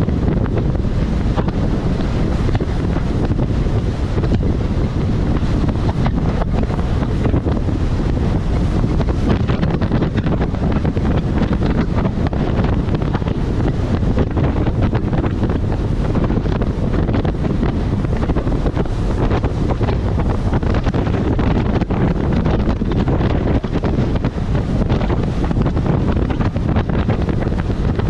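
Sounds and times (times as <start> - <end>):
rushing water: 0.0 - 28.0
wind buffeting microphone: 0.0 - 28.0.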